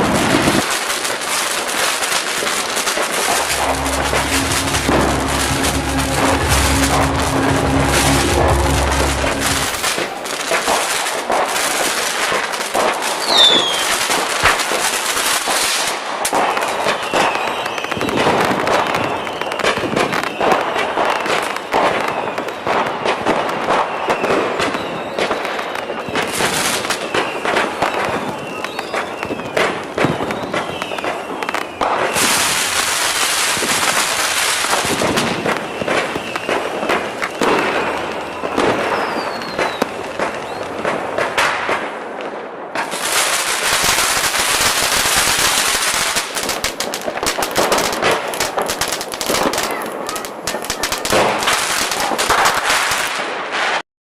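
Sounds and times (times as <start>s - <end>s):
fireworks crackling: 0.0s - 53.8s
fireworks popping and banging: 0.0s - 53.8s.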